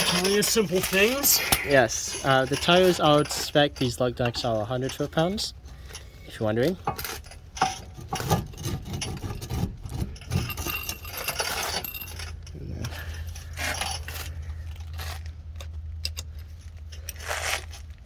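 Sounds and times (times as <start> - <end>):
lug nuts and tools clinking: 0.0 - 18.0.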